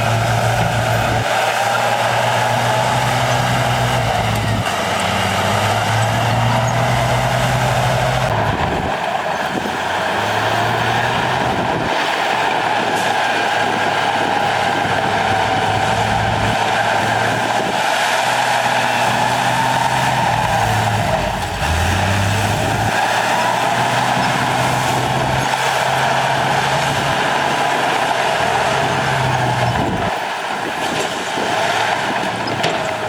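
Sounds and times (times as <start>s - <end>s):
heavy machinery diesel engine running: 0.0s - 33.0s.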